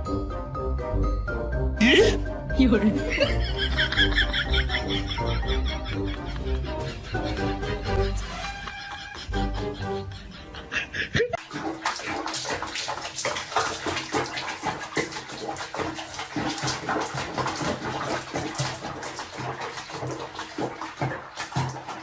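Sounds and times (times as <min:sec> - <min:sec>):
water splashing and sloshing: 0:02.1 - 0:22.0.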